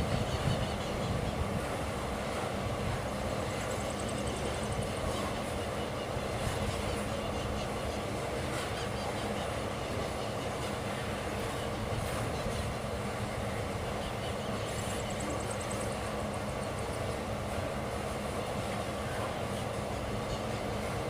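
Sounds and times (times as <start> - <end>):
freight train wheels rumbling on rail: 0.0 - 21.0.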